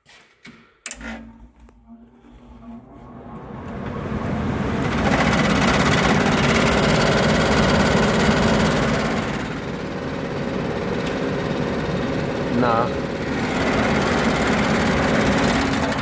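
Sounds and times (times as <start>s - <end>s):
blower housing rattling: 1.0s - 16.0s
furnace blower motor running: 1.0s - 16.0s.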